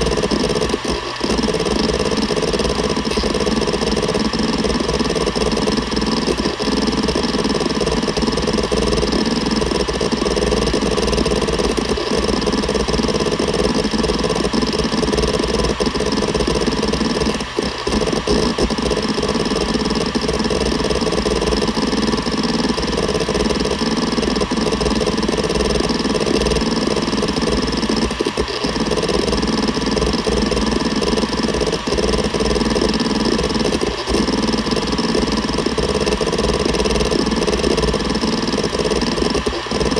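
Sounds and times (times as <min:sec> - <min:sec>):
hard drive hum and whine: 0:00.0 - 0:39.9
hard drive seek ticks: 0:00.0 - 0:39.9.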